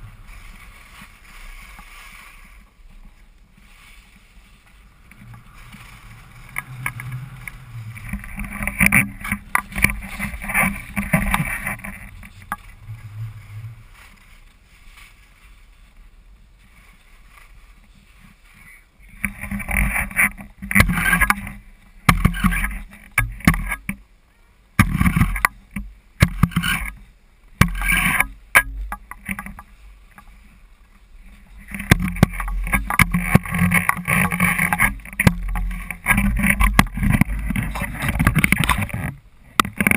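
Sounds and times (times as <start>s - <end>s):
skis scraping over packed snow: 0.0s - 39.9s.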